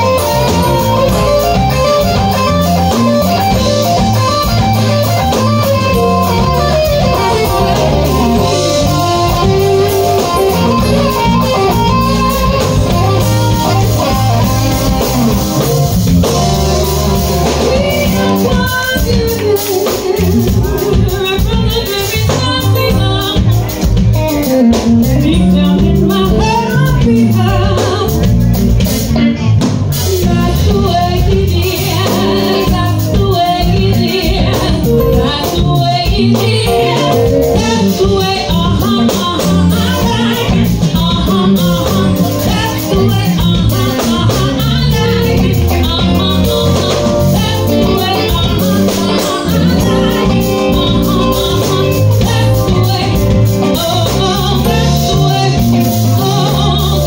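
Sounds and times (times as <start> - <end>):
woman singing into microphone: 0.0 - 15.3, 16.3 - 57.0
live band playing: 0.0 - 57.0.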